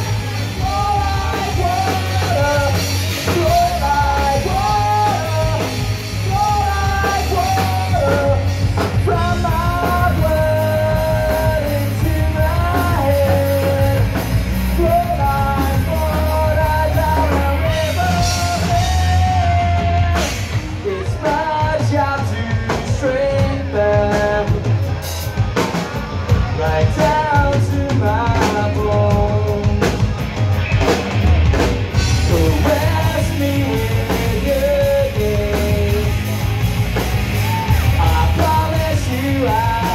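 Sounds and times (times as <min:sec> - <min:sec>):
bass guitar: 0:00.0 - 0:39.9
drum kit and cymbals: 0:00.0 - 0:39.9
electric guitars: 0:00.0 - 0:39.9
lead singer's voice: 0:00.0 - 0:39.9.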